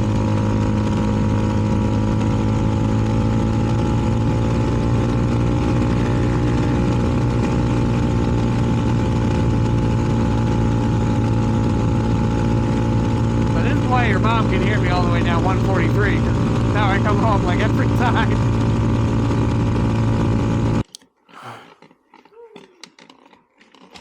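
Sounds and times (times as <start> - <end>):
motorcycle engine idling: 0.0 - 20.8.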